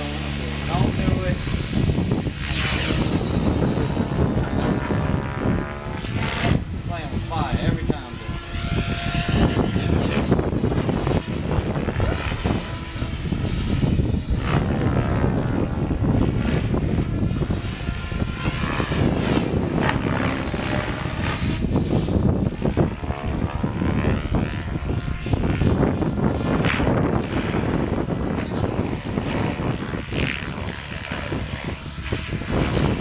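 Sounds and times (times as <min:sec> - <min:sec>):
model airplane motor whining: 0:00.0 - 0:33.0
wind buffeting on microphone: 0:00.0 - 0:33.0.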